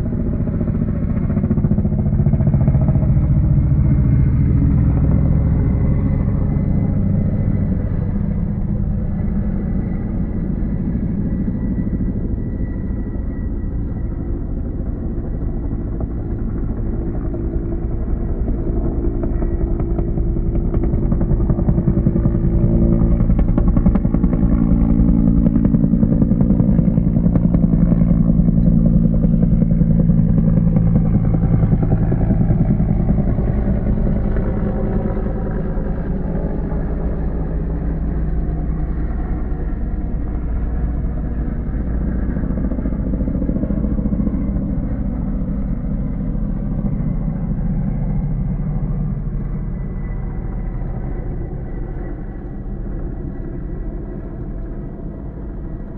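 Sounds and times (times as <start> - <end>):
helicopter engine and rotor: 0.0 - 55.9.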